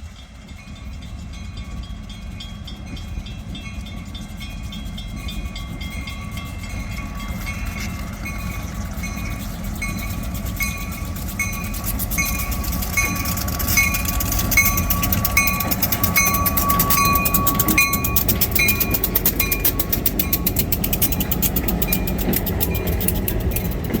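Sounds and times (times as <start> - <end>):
train rumble and wheel clatter: 0.0 - 24.0
thin steady whine: 0.9 - 24.0.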